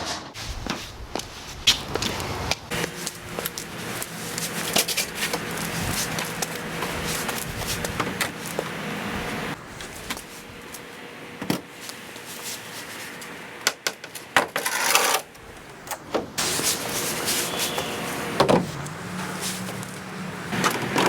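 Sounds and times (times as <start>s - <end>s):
scraping rustle: 0.0s - 10.9s, 11.7s - 13.4s, 16.4s - 21.0s.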